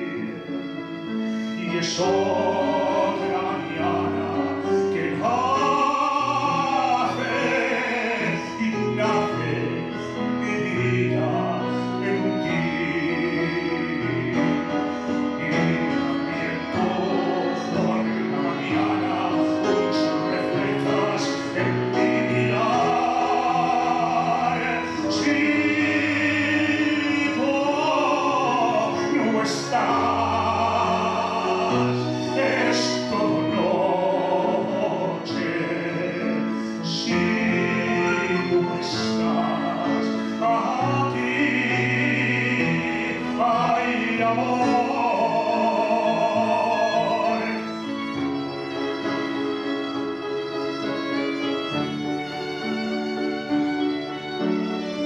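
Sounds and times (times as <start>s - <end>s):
man singing ballad: 0.0s - 48.6s
piano: 0.0s - 55.0s
violin: 0.0s - 55.0s.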